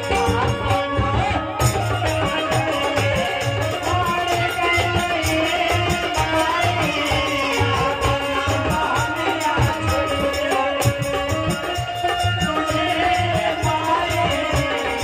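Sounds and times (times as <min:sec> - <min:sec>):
harmonium chords: 0:00.0 - 0:15.0
jingling percussion: 0:00.0 - 0:15.0.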